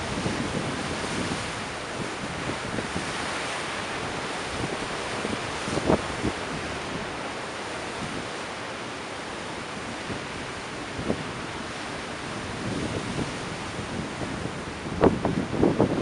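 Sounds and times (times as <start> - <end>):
wind buffeting microphone: 0.0 - 7.3, 9.7 - 16.0
ocean surf rushing: 0.0 - 16.0.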